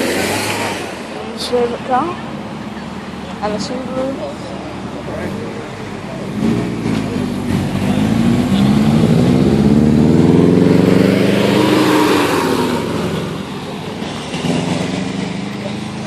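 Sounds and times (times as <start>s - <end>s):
car engine revving past: 0.0s - 1.5s, 4.3s - 16.0s.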